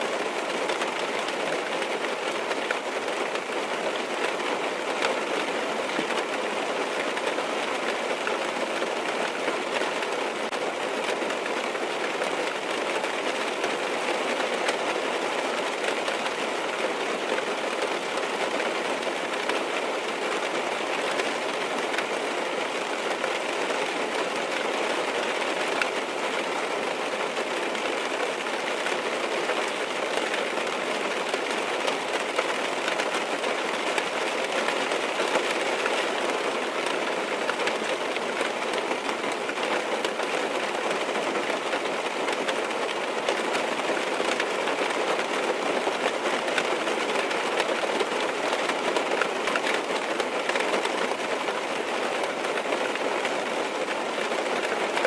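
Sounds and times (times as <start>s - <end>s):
rain on a car roof: 0.0s - 55.0s.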